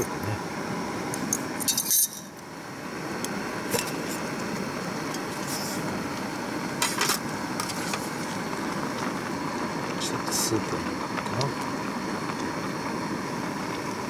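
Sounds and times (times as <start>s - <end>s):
gas stove burning: 0.0s - 14.0s.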